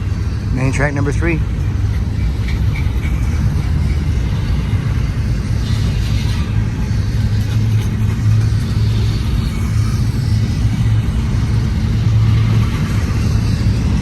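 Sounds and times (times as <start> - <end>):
diesel locomotives pulling: 0.0 - 14.0
freight train rumbling by: 0.0 - 14.0.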